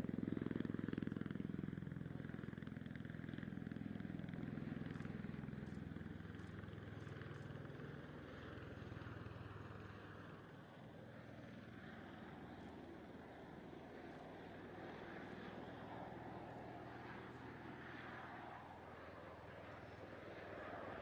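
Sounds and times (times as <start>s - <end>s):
aircraft engines and rotors droning: 0.0s - 21.0s.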